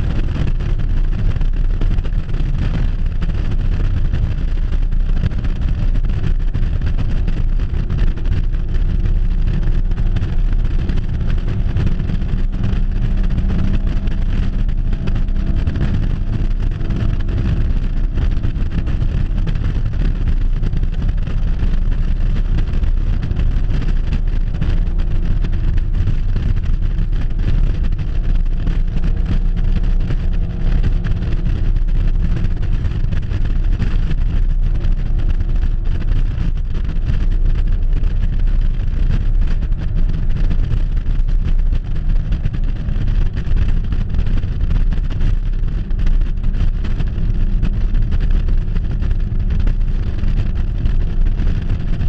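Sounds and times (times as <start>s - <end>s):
car engine and road noise: 0.0s - 52.0s
wind rushing over microphone: 0.0s - 52.0s.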